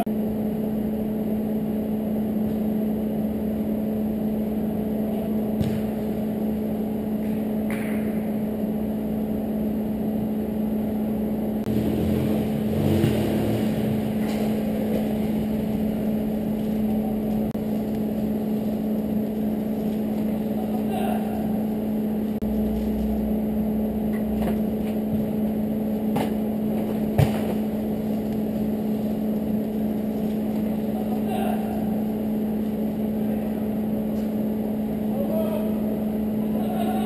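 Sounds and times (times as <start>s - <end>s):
steady machine hum: 0.0s - 37.0s.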